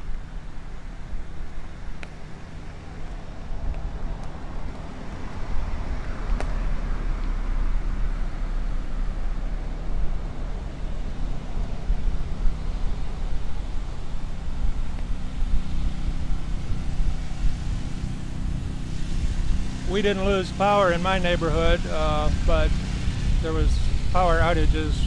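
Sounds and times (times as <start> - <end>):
wind rumbling on microphone: 0.0 - 25.0
car passing: 0.9 - 25.0.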